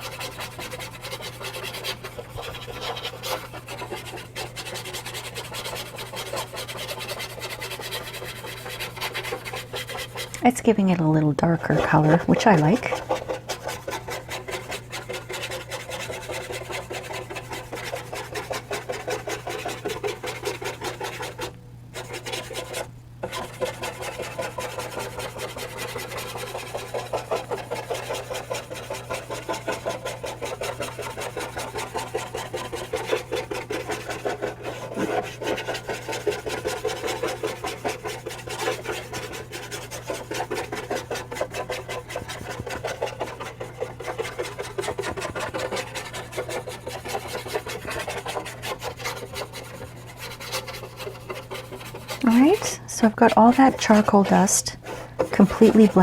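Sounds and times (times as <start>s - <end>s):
paint brush scrubbing paper: 0.0s - 56.0s.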